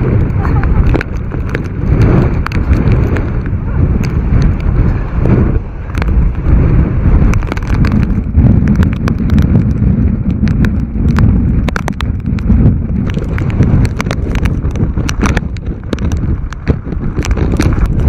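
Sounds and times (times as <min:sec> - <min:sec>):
storm wind on microphone: 0:00.0 - 0:18.0
sharp taps and crackles: 0:00.3 - 0:05.0, 0:05.9 - 0:06.5, 0:07.1 - 0:18.0.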